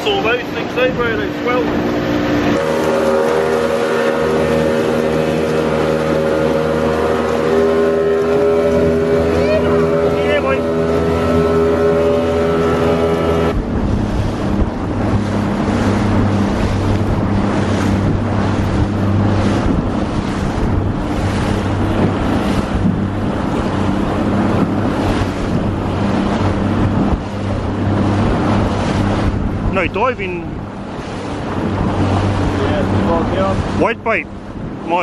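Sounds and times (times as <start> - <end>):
boat motor running: 0.0 - 35.0
water washing around hull: 0.0 - 35.0
wind buffeting microphone: 0.0 - 35.0.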